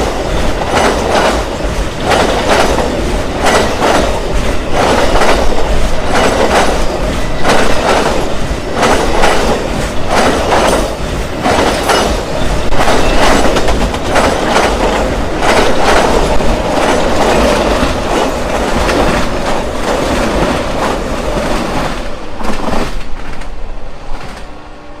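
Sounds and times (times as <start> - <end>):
wheels clacking over rail joints: 0.0 - 24.5
train wheels on rail: 0.0 - 25.0.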